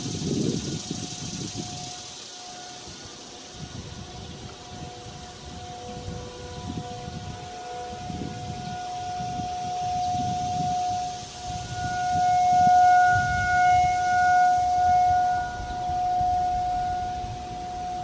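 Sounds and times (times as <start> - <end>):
warning siren steady tone: 0.0 - 18.0
wind rumbling on microphone: 0.0 - 18.0.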